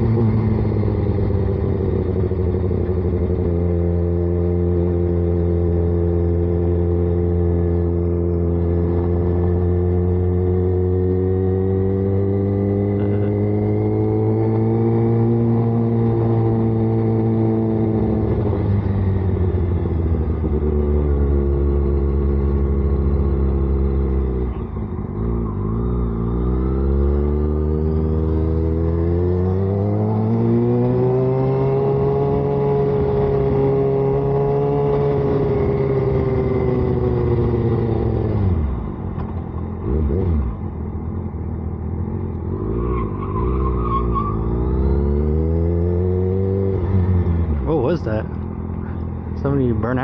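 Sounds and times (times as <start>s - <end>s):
motorcycle engine: 0.0s - 50.0s.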